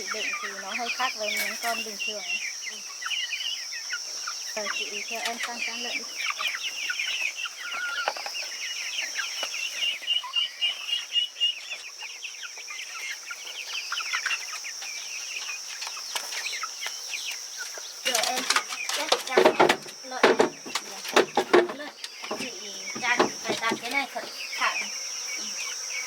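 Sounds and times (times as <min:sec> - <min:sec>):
poultry peeping and clucking: 0:00.0 - 0:26.0.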